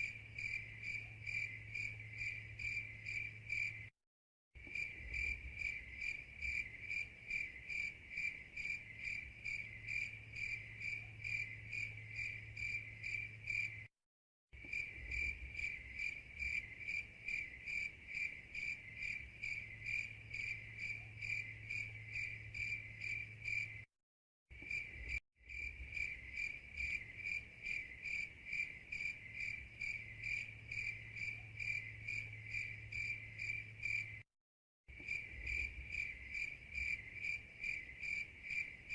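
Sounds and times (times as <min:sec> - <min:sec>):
crickets chirping: 0:00.0 - 0:03.9, 0:04.6 - 0:13.9, 0:14.6 - 0:23.9, 0:24.6 - 0:34.2, 0:34.9 - 0:38.9.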